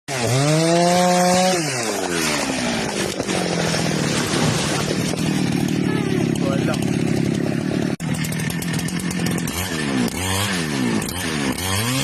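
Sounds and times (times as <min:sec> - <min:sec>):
chainsaw engine revving: 0:00.1 - 0:12.0.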